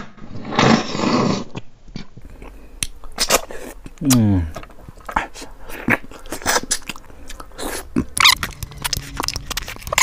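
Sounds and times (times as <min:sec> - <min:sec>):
chewing and sucking fish head: 0:01.5 - 0:10.0
wet smacks and crunching: 0:01.6 - 0:10.0.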